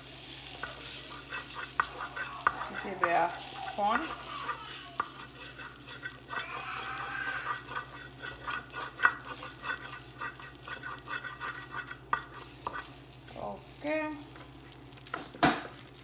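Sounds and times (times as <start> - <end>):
wooden spatula scraping a pan: 0.0 - 14.7.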